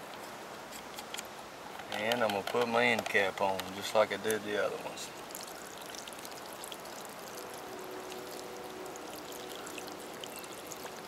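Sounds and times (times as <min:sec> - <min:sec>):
water running onto soil: 0:01.9 - 0:11.0.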